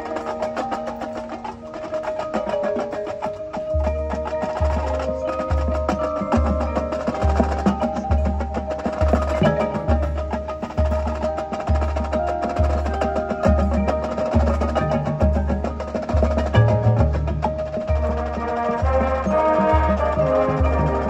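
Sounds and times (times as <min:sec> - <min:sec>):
mallet percussion notes: 0:00.0 - 0:21.0
marching band playing: 0:00.0 - 0:21.0.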